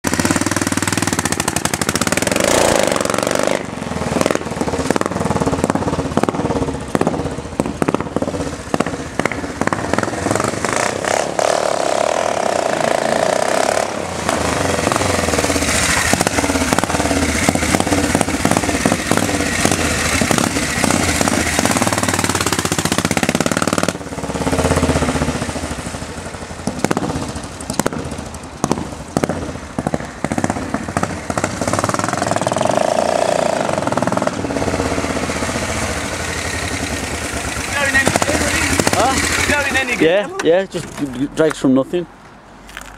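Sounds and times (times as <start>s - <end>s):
motorcycle engine revving: 0.0s - 40.4s.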